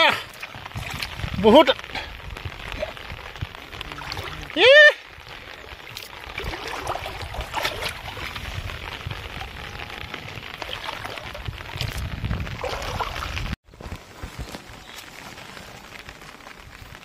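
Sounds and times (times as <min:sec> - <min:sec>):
rain falling on water: 0:00.0 - 0:17.0
water trickling and splashing: 0:00.0 - 0:17.0.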